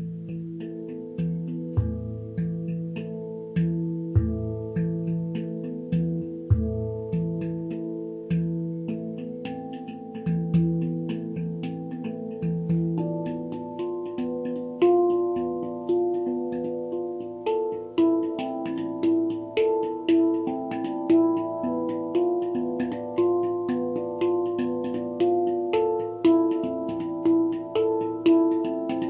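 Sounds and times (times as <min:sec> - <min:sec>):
handpan notes ringing: 0:00.0 - 0:29.0.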